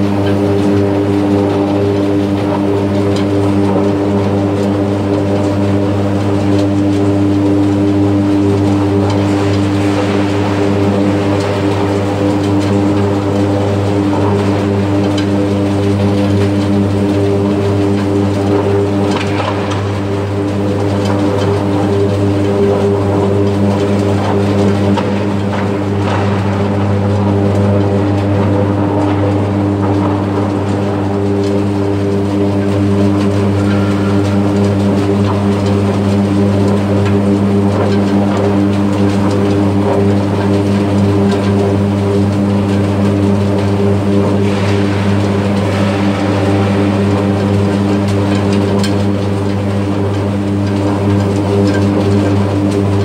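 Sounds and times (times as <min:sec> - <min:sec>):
deep electrical buzz: 0:00.0 - 0:53.0
electrical arc crackle: 0:00.0 - 0:53.0.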